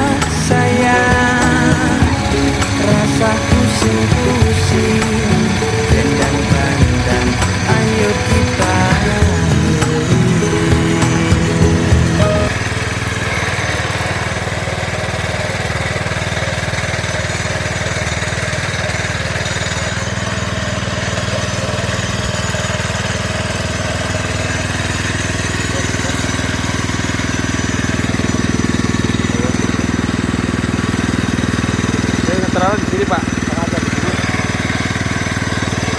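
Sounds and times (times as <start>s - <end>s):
small winch engine running: 0.0s - 35.9s.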